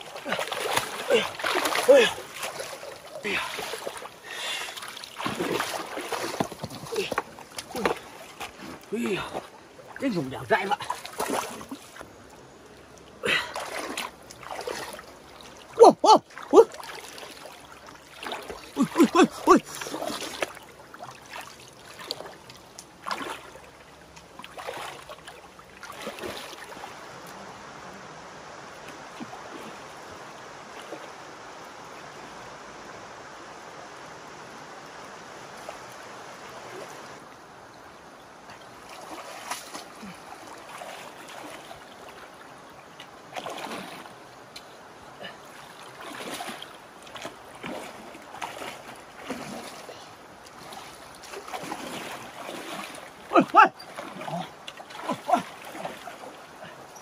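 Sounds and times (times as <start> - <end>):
splashing in shallow water: 0.0 - 32.3, 35.3 - 57.0
running water rushing: 0.0 - 57.0.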